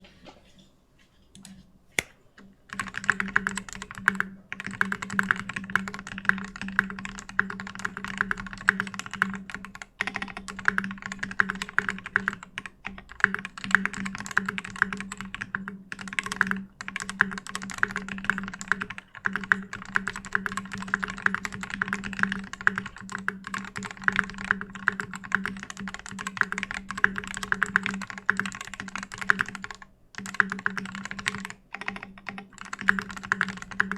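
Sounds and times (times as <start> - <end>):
fast typing on mechanical keyboard: 2.7 - 33.9.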